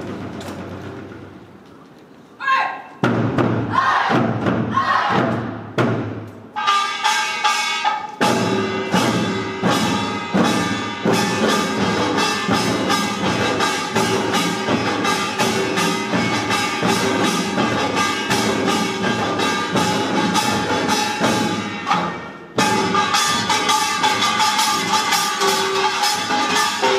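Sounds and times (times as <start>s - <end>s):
fast beat of gongs and drums: 3.0s - 26.9s
heavy drum strokes: 3.0s - 26.9s.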